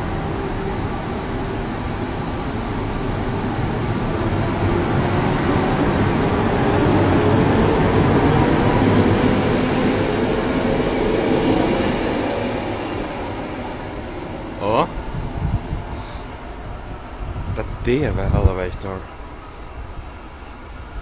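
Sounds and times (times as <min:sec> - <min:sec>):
train running past: 0:00.0 - 0:21.0.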